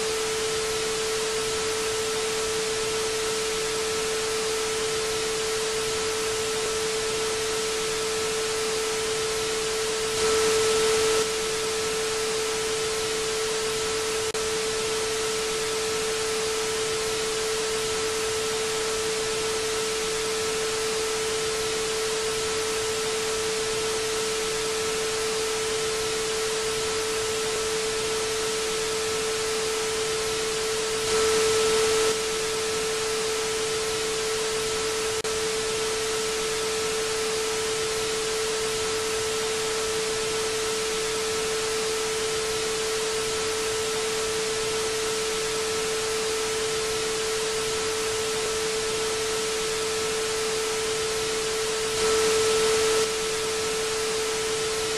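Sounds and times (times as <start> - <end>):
television static hiss: 0.0 - 54.9.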